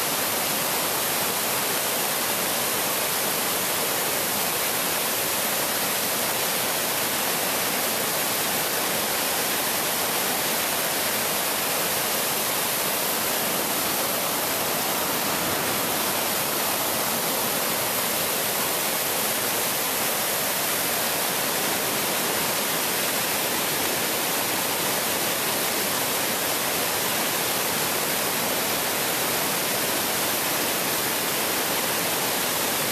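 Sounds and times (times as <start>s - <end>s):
river rushing over rapids: 0.0s - 32.9s.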